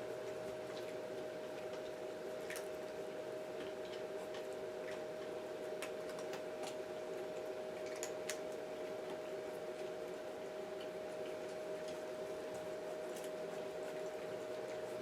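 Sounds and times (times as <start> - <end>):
electrical hum: 0.0 - 15.0
cats crunching dry kibble: 0.1 - 15.0.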